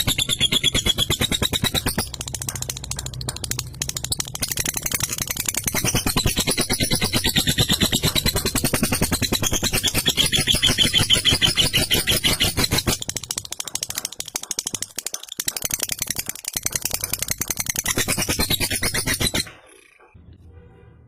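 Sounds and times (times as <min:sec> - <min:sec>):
lovebird rattling chatter: 0:00.0 - 0:20.1.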